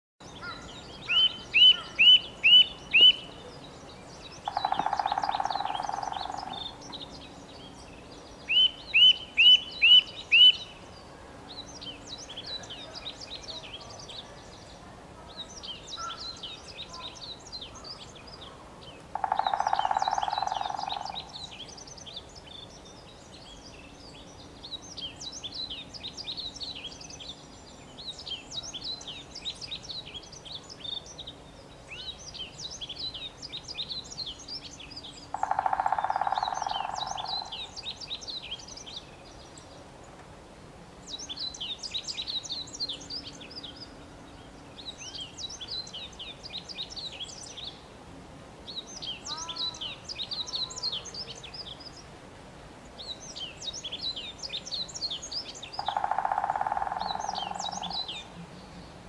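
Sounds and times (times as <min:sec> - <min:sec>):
songbird chirping: 0:00.2 - 0:59.0.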